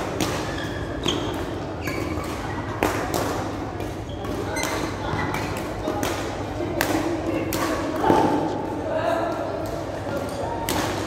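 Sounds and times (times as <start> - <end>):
rackets striking shuttlecock: 0.0 - 8.6, 9.4 - 11.0.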